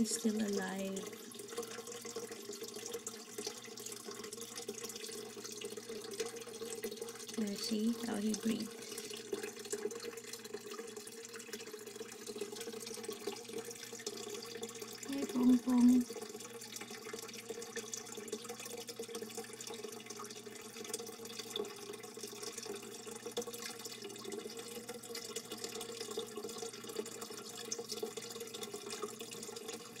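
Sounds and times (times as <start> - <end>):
fine crackly drips: 0.0 - 30.0
running water trickling and splashing: 0.0 - 30.0.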